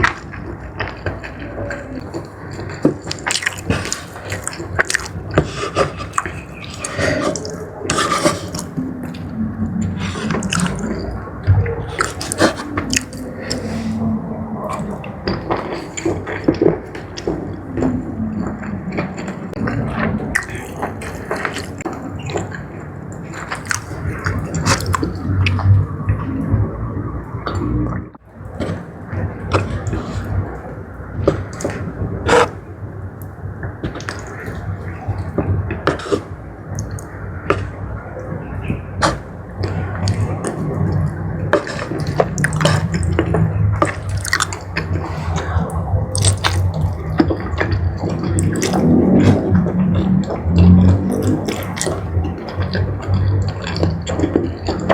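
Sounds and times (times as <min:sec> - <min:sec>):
wet chewing and biting: 0:00.0 - 0:26.4, 0:33.2 - 0:54.9.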